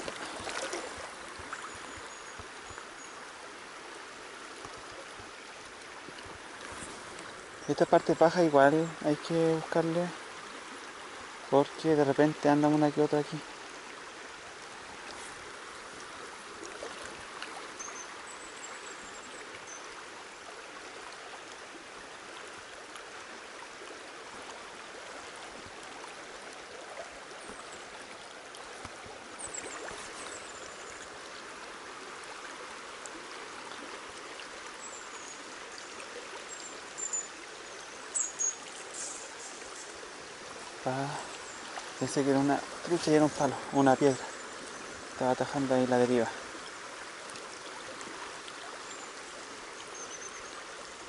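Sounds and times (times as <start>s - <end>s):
river current flowing: 0.0s - 51.0s.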